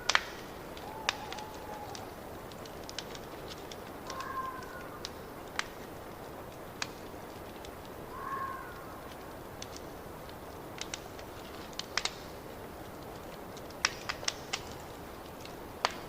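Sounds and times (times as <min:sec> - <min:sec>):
steady hiss: 0:00.0 - 0:16.0
wood fire crackling and popping: 0:00.0 - 0:16.0.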